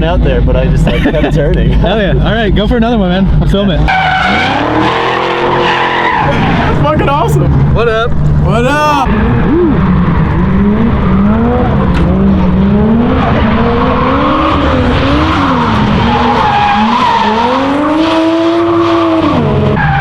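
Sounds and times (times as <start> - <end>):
car engine revving: 0.0 - 20.0
tyres skidding and squealing: 0.7 - 20.0.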